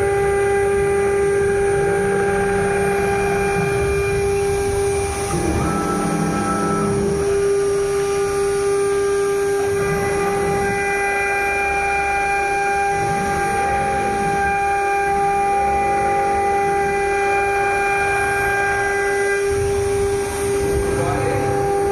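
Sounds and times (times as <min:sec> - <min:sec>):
bit cutting metal panel: 0:00.0 - 0:21.9
router spindle whine: 0:00.0 - 0:21.9.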